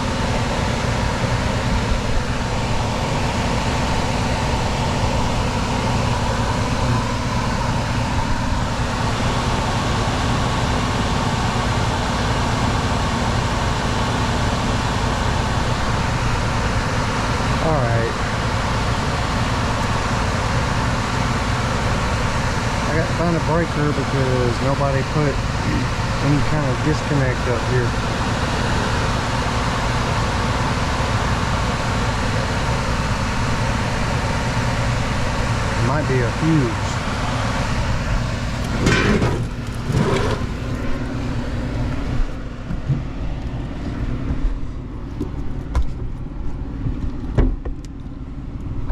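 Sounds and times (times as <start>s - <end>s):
air rushing from hvac system: 0.0s - 42.4s
low mechanical hum: 0.0s - 48.9s.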